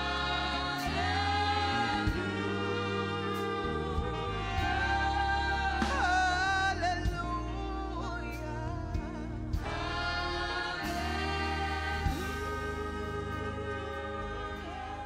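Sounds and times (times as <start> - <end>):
sustained keyboard chords: 0.0 - 15.0.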